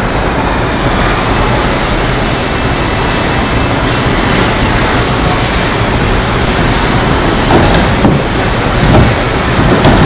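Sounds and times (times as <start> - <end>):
industrial background rush: 0.0 - 10.0.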